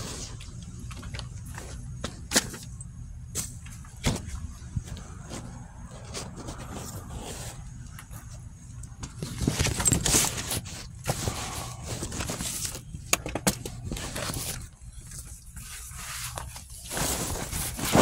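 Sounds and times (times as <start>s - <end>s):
low steady rumble: 0.0s - 18.0s
phone handling scraping and rustling: 3.4s - 18.0s.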